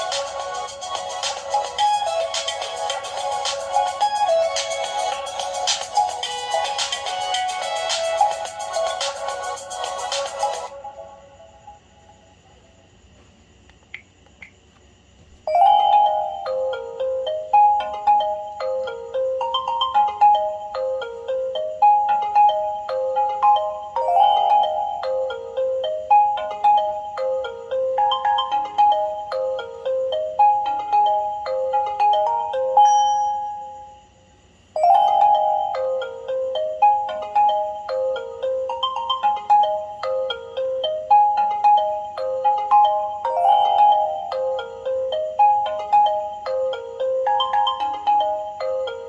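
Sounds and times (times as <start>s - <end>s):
phone ringtone melody: 0.0s - 11.1s, 15.5s - 34.0s, 34.8s - 49.0s.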